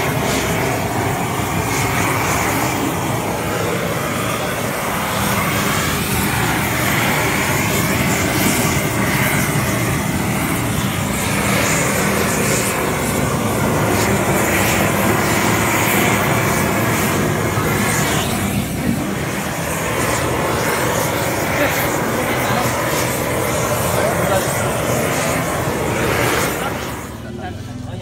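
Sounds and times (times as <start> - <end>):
gas torch flame rushing: 0.0 - 27.8.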